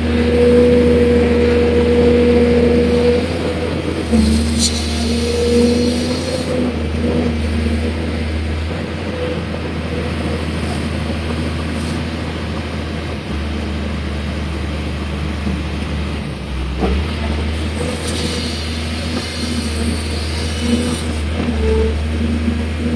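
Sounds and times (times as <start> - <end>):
diesel engine humming: 0.0 - 22.9.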